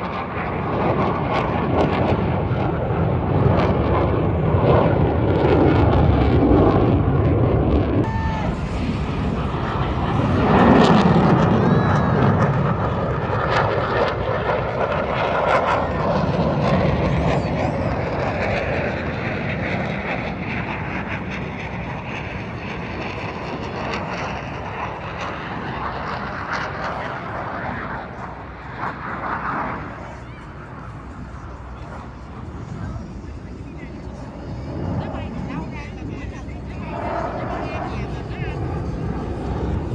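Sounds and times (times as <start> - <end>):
airplane flying past: 0.0 - 39.9.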